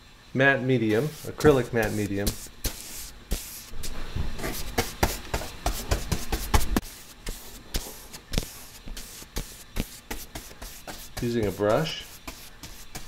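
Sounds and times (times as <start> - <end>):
brush scrubbing on paper: 0.9 - 13.0.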